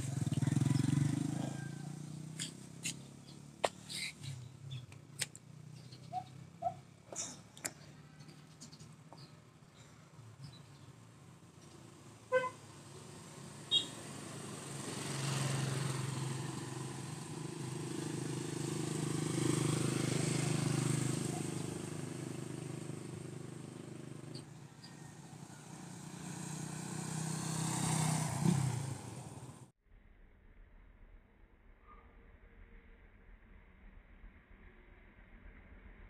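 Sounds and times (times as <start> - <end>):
motorcycle engine passing: 0.0 - 9.6, 10.4 - 29.7.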